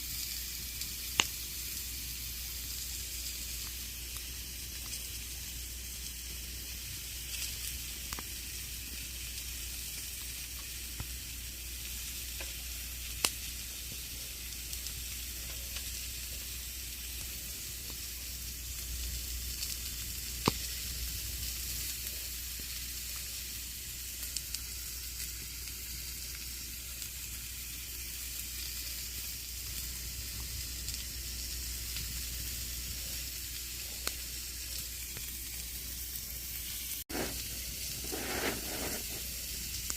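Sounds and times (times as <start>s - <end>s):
campfire crackling: 0.1s - 39.9s
burning wood popping: 0.6s - 1.8s, 3.3s - 5.5s, 6.1s - 39.9s.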